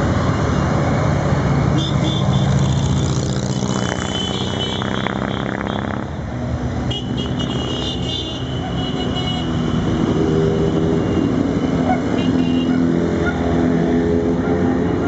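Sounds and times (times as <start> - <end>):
motorcycle engines droning: 0.0 - 8.8, 9.4 - 15.0.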